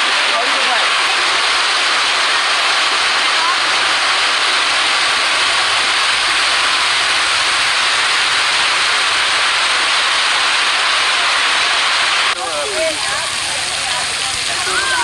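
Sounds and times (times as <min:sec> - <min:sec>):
fountain water rushing: 0:00.0 - 0:15.0.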